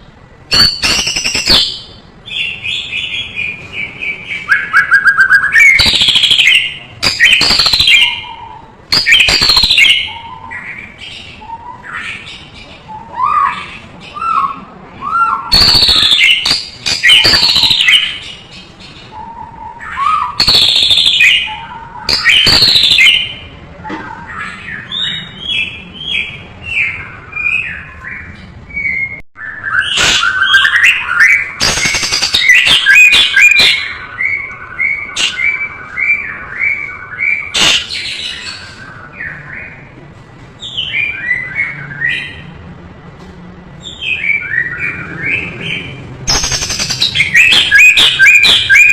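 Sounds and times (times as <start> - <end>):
bird singing varied song: 0.0 - 39.9, 40.6 - 42.6, 43.8 - 48.9.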